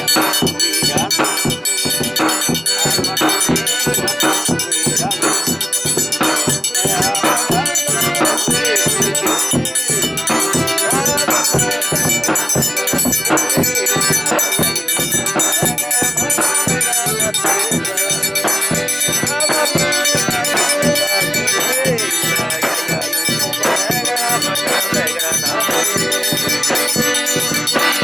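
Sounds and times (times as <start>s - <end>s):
accordion melody: 0.0s - 28.0s
light percussion: 0.0s - 28.0s
low drum beat: 0.0s - 28.0s.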